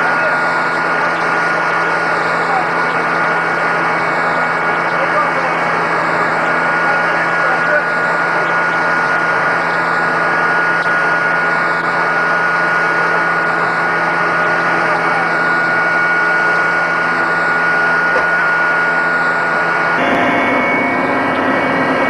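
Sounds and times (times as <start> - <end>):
helicopter cabin noise: 0.0 - 22.0
high engine whine: 0.0 - 22.0.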